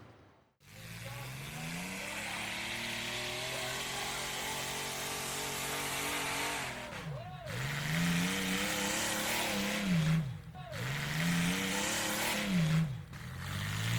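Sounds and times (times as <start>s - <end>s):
racing engine running: 0.6s - 13.9s.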